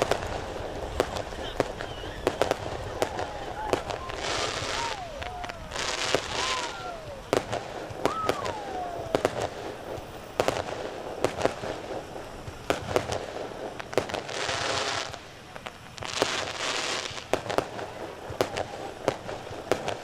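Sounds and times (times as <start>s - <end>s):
fireworks hissing: 0.0s - 20.0s.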